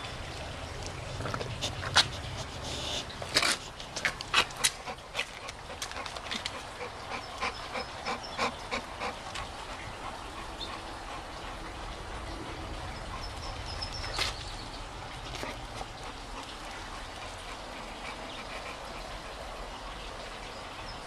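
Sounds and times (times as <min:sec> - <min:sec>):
dog sniffing: 0:01.1 - 0:19.5.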